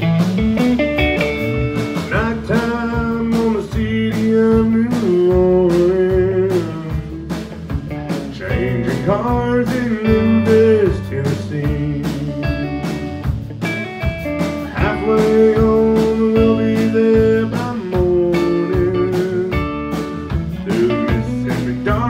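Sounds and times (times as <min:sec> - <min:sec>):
drum kit beat: 0:00.0 - 0:22.0
electric bass: 0:00.0 - 0:22.0
electric guitar lead: 0:00.0 - 0:22.0
strummed acoustic guitar: 0:00.0 - 0:22.0.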